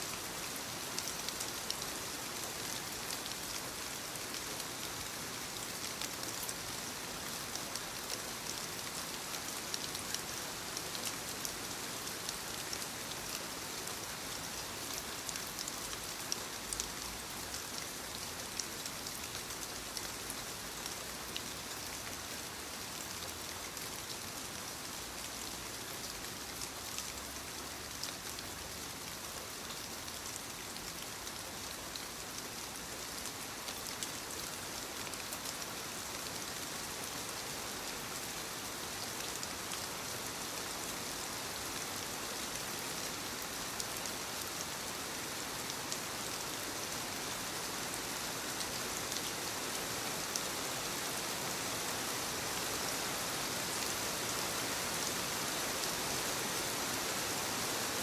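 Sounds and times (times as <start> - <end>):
light rain on leaves: 0.0 - 58.0.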